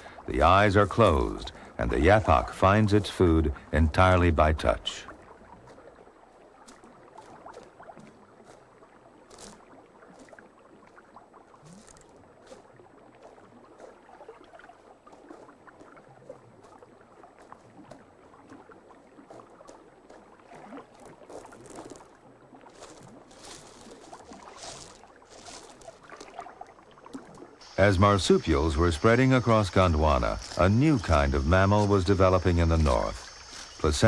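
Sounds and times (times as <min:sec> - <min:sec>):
light clicks and ticks underwater: 0:00.0 - 0:27.8
underwater gurgling and sloshing: 0:00.0 - 0:34.0.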